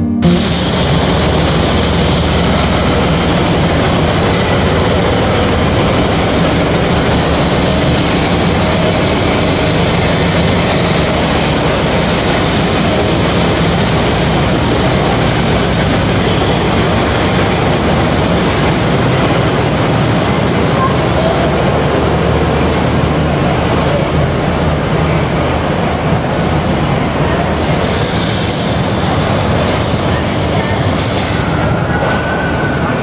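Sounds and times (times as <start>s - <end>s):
diesel locomotive engine running: 0.0s - 33.0s
train rolling by: 0.0s - 33.0s.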